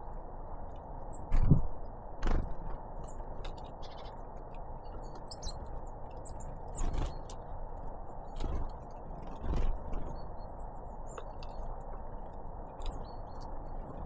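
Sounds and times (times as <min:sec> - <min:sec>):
low background rumble: 0:00.0 - 0:14.0
small birds chirping: 0:00.7 - 0:14.0.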